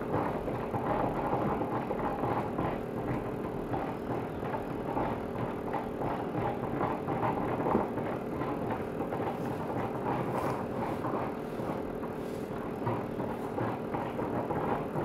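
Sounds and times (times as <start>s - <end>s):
garment steamer running: 0.0s - 15.0s.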